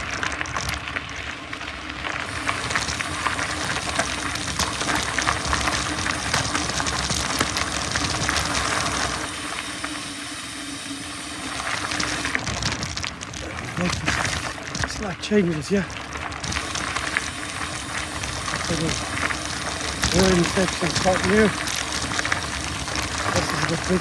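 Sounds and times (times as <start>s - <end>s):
bike clicks and rattles: 0.0s - 24.0s
bike tyres crackling over dirt: 0.0s - 24.0s.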